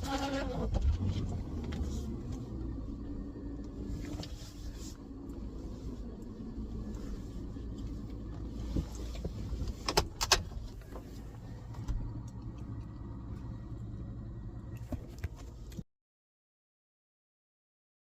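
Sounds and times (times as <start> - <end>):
vehicle engine idling: 0.0 - 15.8.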